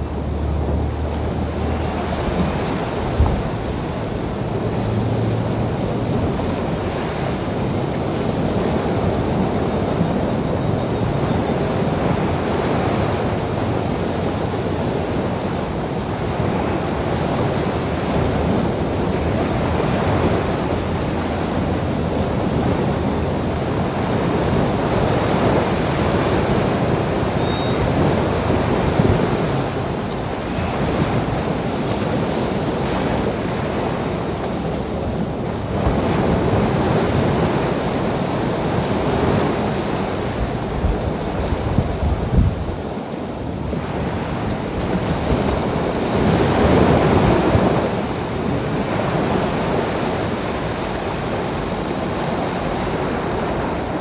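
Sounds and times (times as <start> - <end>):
ocean waves washing onto shore: 0.0 - 54.0
wind noise on microphone: 0.0 - 54.0.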